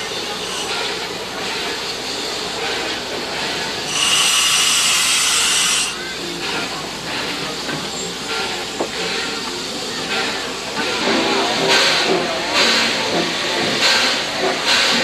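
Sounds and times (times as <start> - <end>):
steam locomotive hiss: 0.0 - 15.0
burst of escaping steam: 0.1 - 15.0.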